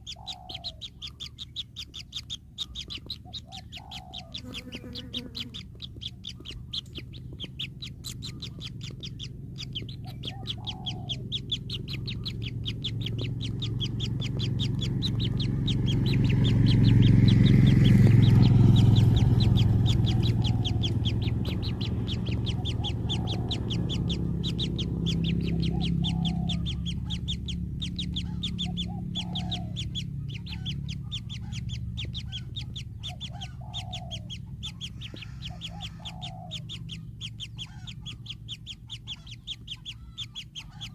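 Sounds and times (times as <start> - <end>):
high bird chirps: 0.0 - 40.9
low hum: 0.0 - 40.9
short lower bird calls: 0.0 - 40.9.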